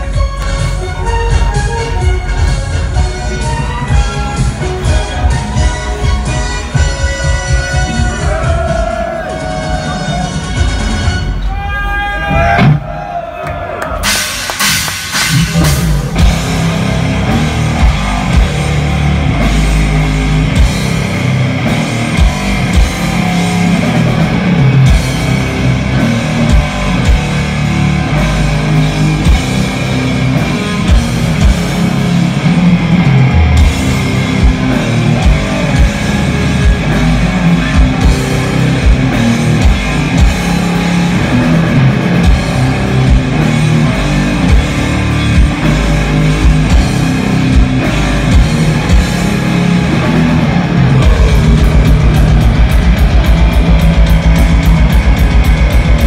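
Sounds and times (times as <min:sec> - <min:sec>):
distorted electric guitars: 0:00.0 - 0:11.4, 0:14.0 - 0:56.0
drum kit: 0:00.0 - 0:11.5, 0:13.8 - 0:56.0.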